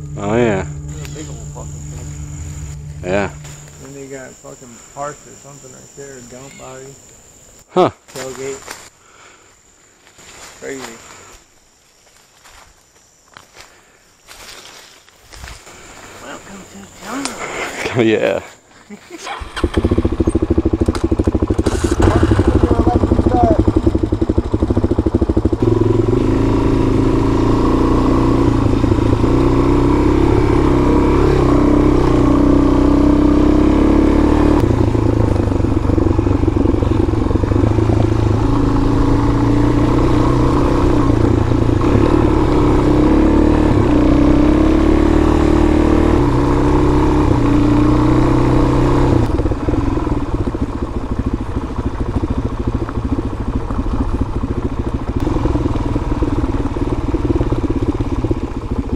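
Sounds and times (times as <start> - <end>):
motorcycle engine revving: 0.0 - 7.6, 19.2 - 58.9.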